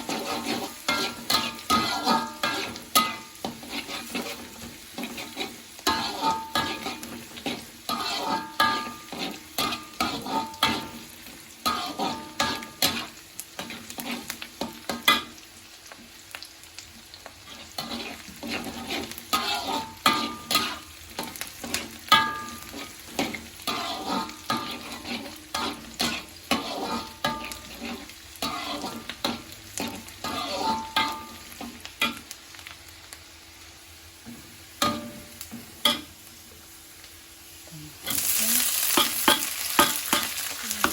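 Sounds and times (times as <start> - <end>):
metal spatula scraping pan: 0.0 - 15.4, 17.4 - 32.3, 38.0 - 40.9
onions sizzling in oil: 0.0 - 40.9.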